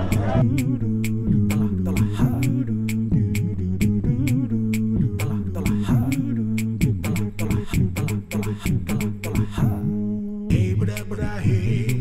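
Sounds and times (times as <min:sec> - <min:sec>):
vocal music with steady beat: 0:00.0 - 0:12.0.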